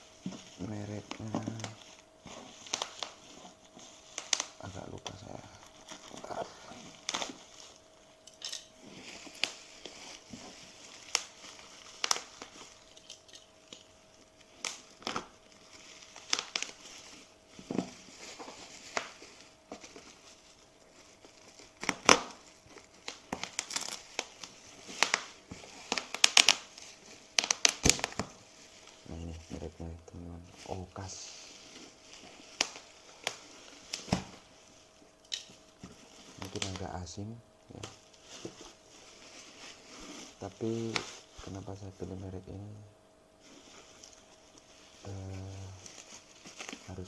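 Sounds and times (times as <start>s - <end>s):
bubble wrap crinkling and tearing: 0.0s - 47.0s.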